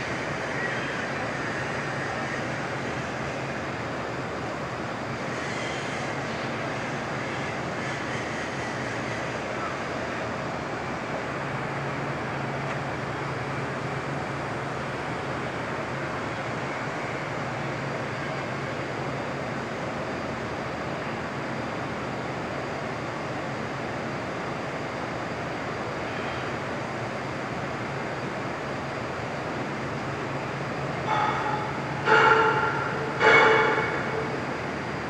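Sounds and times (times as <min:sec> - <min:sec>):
diesel engine drone and hiss: 0:00.0 - 0:35.0.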